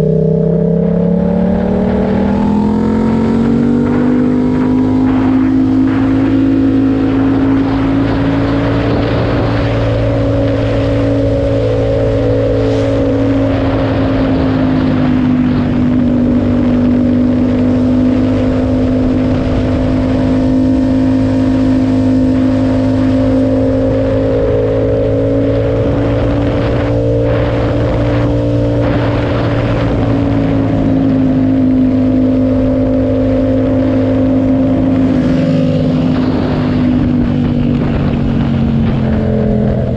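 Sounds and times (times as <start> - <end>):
motorcycle engine cruising: 0.0 - 39.9
wind rushing: 0.0 - 39.9.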